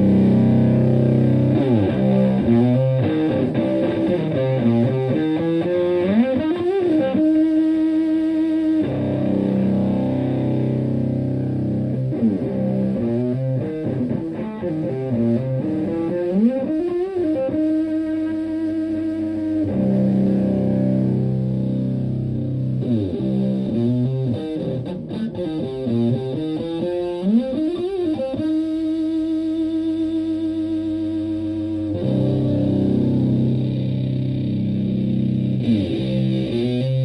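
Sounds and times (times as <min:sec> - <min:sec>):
fuzz electric guitar: 0:00.0 - 0:37.0.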